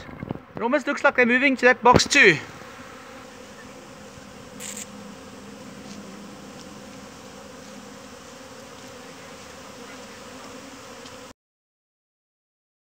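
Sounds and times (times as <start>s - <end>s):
bees buzzing: 0.1s - 11.4s.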